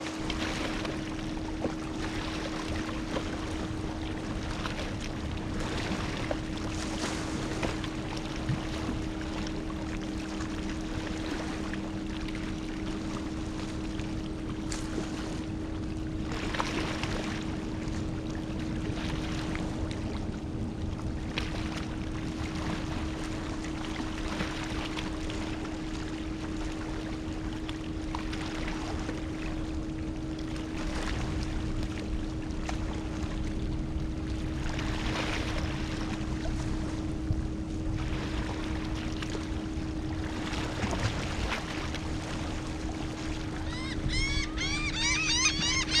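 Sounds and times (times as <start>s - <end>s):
gentle ocean waves: 0.0s - 46.0s
steady low hum: 0.0s - 46.0s.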